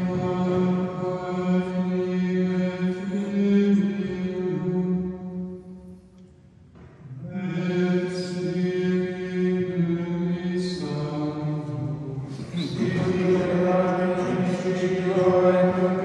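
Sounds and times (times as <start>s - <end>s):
person chanting: 0.0s - 6.1s, 7.0s - 16.0s.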